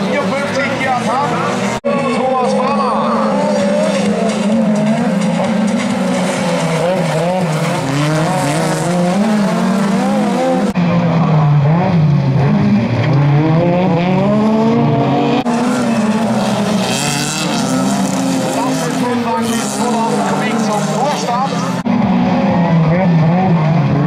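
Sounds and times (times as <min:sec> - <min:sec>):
racing car engines revving: 0:00.0 - 0:24.0.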